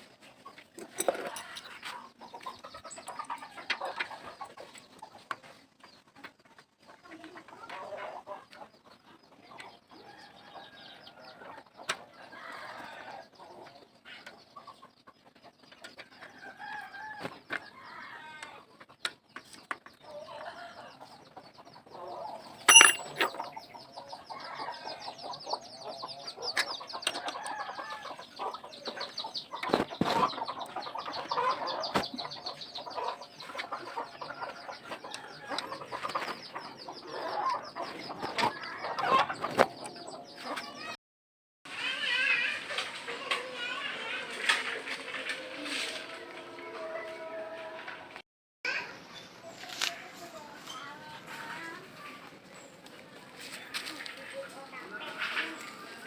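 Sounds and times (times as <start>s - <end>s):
chickens clucking: 0.0s - 41.0s, 49.1s - 56.0s.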